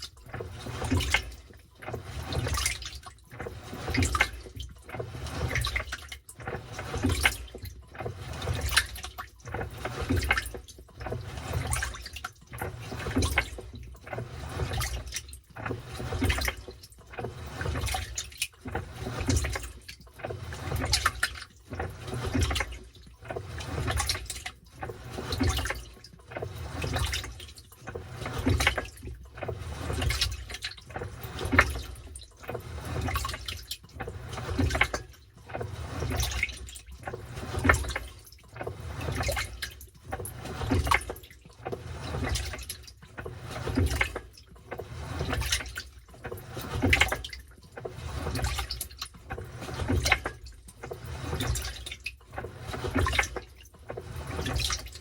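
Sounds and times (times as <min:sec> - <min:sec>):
washing machine water sloshing: 0:00.0 - 0:55.0.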